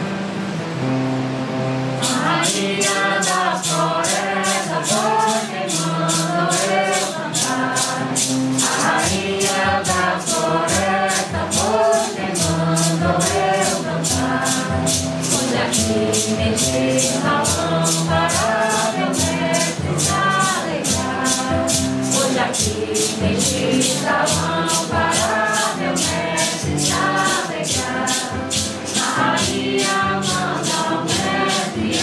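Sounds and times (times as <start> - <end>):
held instrument chords: 0.0 - 32.0
maracas shaken: 0.1 - 32.0
group singing a hymn: 2.0 - 32.0.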